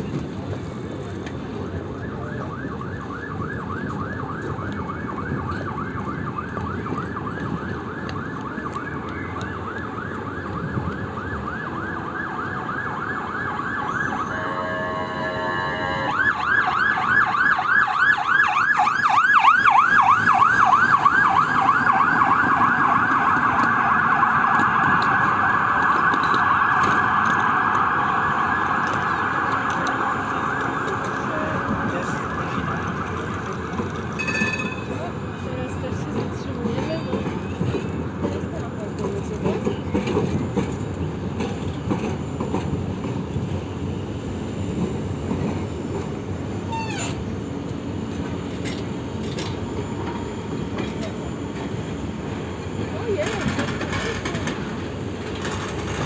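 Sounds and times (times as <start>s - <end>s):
low street rumble: 0.0s - 56.0s
emergency siren yelping: 1.5s - 36.5s, 39.9s - 56.0s.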